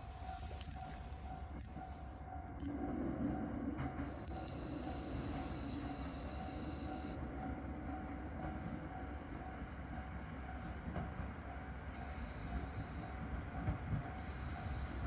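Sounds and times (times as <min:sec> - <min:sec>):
diesel railcar rumble: 0:00.0 - 0:15.0.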